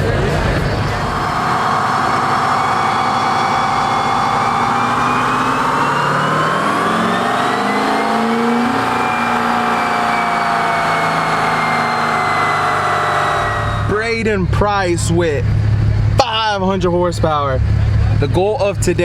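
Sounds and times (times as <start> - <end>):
truck engine and turbo whine: 0.0 - 19.0.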